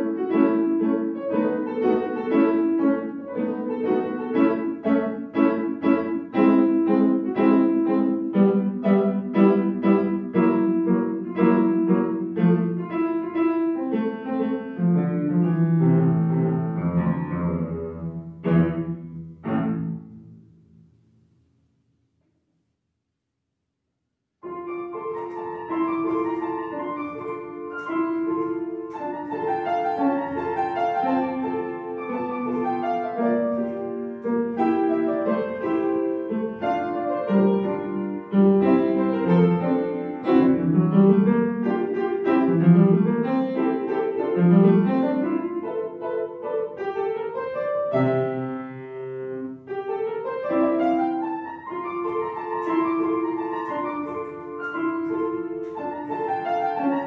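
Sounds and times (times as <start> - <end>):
upright piano playing: 0.0 - 21.0, 24.4 - 57.0.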